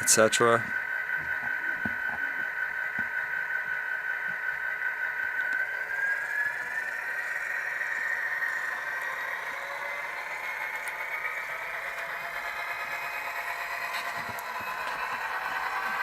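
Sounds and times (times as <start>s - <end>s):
diesel engine sound from small speaker: 0.0s - 16.0s
high turbo whine: 0.0s - 16.0s.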